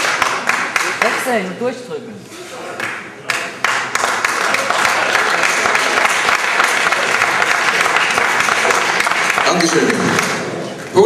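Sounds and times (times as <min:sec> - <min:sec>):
audience applauding: 0:00.0 - 0:01.4, 0:03.3 - 0:11.0.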